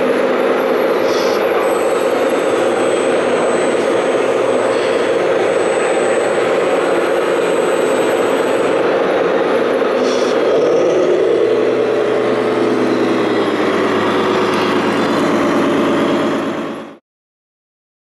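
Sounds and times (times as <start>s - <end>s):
model machinery engine running: 0.0s - 17.0s.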